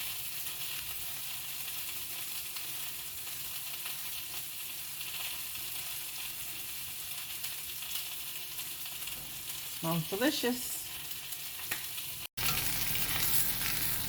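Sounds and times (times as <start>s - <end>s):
chicken sizzling in a frying pan: 0.0s - 14.0s.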